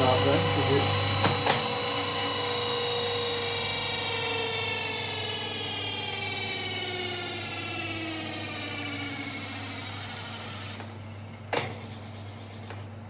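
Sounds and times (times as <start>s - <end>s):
spin dryer whine slowing down: 0.0s - 12.8s.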